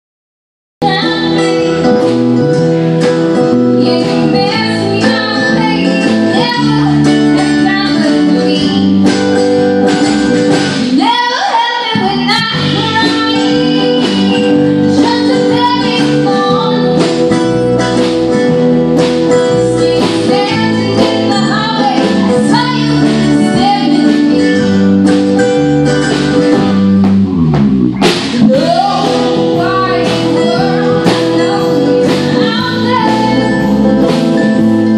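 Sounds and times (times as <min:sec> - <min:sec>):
woman singing lead: 0:00.8 - 0:09.9, 0:10.6 - 0:25.0, 0:28.3 - 0:34.9
live band playing: 0:00.8 - 0:34.9.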